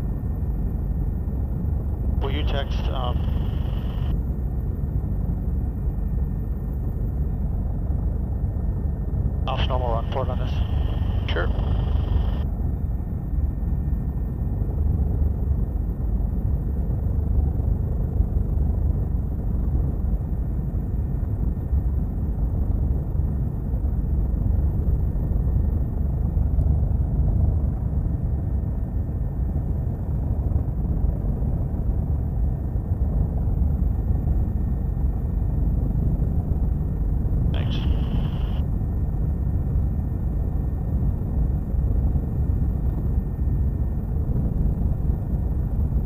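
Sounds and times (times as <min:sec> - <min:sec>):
helicopter drone from inside cabin: 0:00.0 - 0:46.0.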